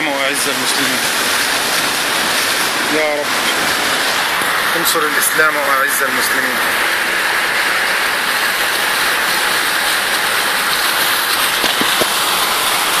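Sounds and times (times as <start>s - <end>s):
heavy rain: 0.0s - 13.0s
running water: 0.0s - 13.0s.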